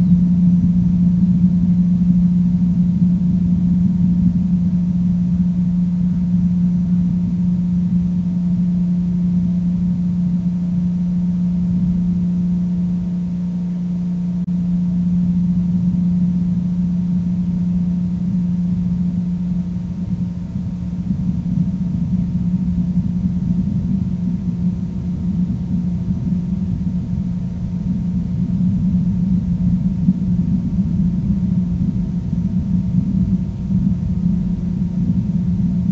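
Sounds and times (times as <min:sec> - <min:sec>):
low-pitched drone: 0:00.0 - 0:35.9
rumbling low noise: 0:00.0 - 0:35.9.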